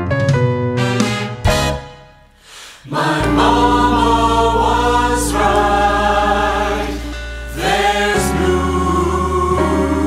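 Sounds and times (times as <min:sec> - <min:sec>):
choir singing jazzy chords: 0:00.7 - 0:10.0.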